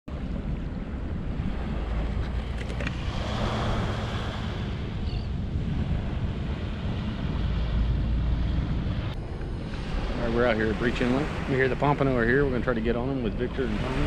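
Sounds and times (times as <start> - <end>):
small waves washing onto sand: 0.1 - 14.0
wind buffeting microphone: 0.1 - 14.0.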